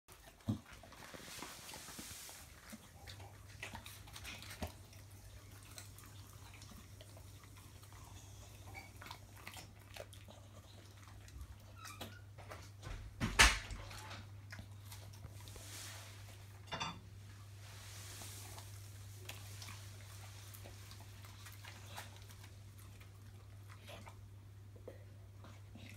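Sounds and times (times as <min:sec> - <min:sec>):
dog chewing and licking: 0:00.1 - 0:16.8, 0:17.6 - 0:25.9.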